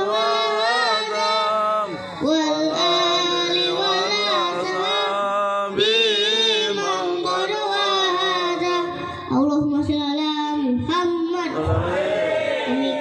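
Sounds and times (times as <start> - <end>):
boy chanting into a microphone: 0.0 - 13.0.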